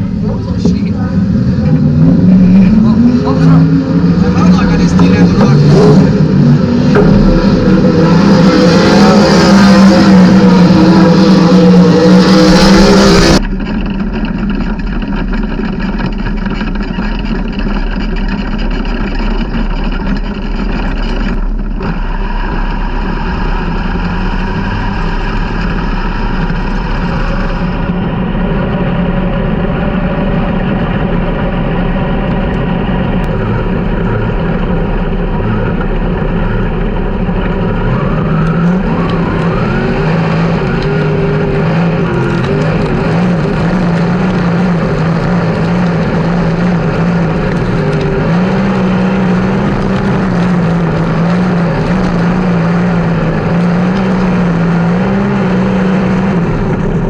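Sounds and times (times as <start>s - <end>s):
race car engines accelerating: 0.0s - 57.0s.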